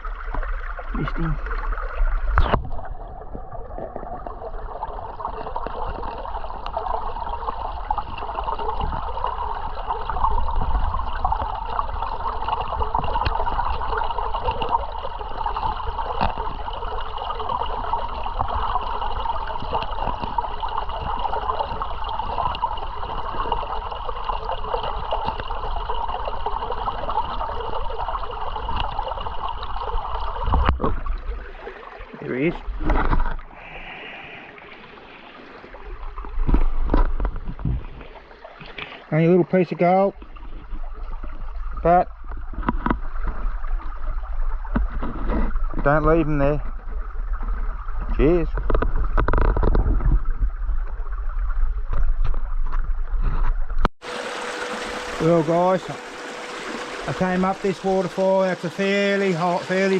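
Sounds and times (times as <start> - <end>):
water running over rocks: 0.0 - 59.9.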